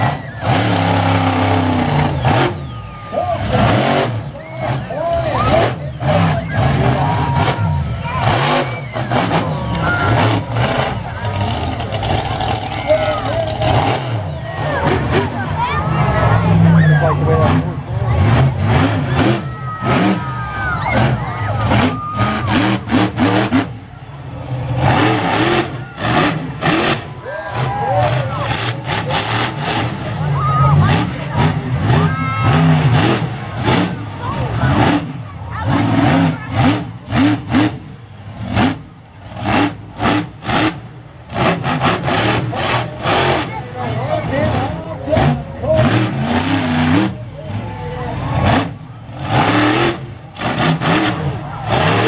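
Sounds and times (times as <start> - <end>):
monster truck engine revving: 0.0 - 52.0.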